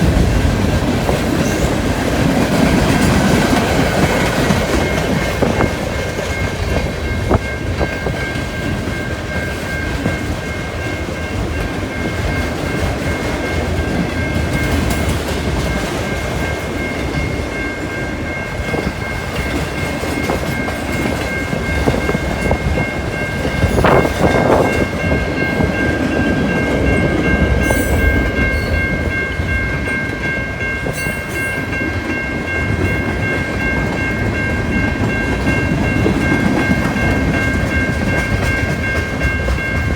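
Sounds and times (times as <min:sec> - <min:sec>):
freight train clattering over rails: 0:00.0 - 0:39.9.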